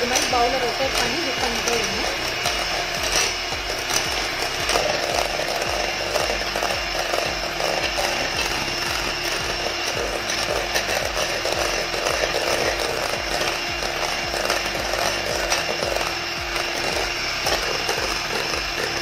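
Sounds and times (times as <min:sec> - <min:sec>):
electric hand mixer whirring: 0:00.0 - 0:19.0.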